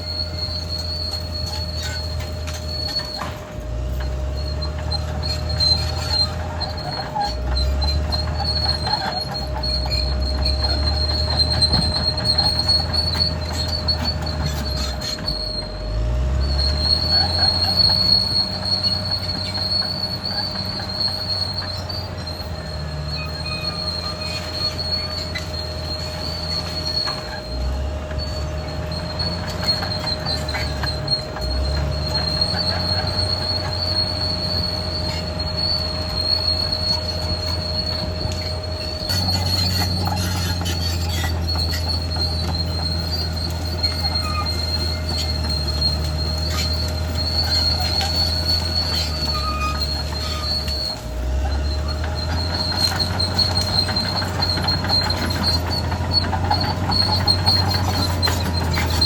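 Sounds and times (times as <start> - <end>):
bulldozer diesel engine rumble: 0.0 - 59.0
steel tracks squealing: 0.0 - 59.0.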